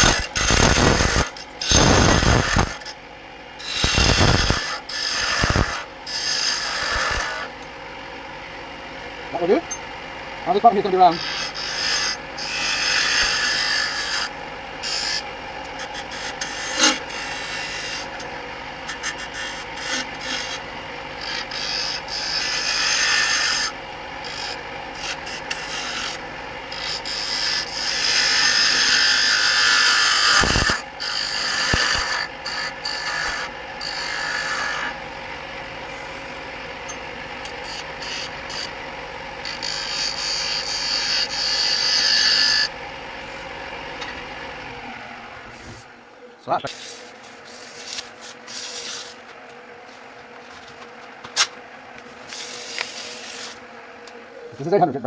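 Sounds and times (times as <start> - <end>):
gouge scraping spinning wood: 0.0 - 46.0, 46.6 - 55.0
wood lathe humming: 0.0 - 55.0.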